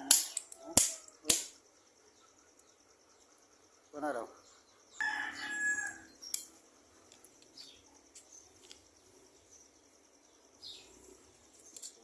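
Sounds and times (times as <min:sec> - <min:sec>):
high insect-like hiss: 0:00.0 - 0:12.0
bird chirps: 0:00.2 - 0:12.0.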